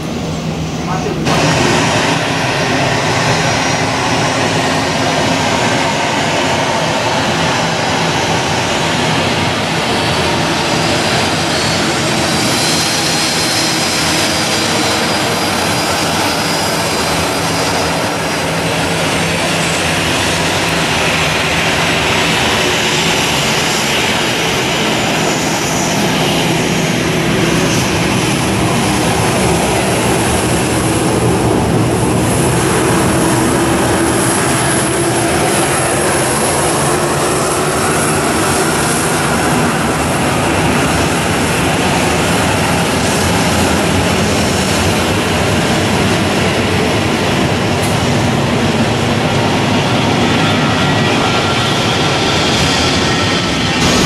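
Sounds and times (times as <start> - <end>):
high-pitched engine whine: 0.0 - 54.0
jet engines droning: 0.0 - 54.0.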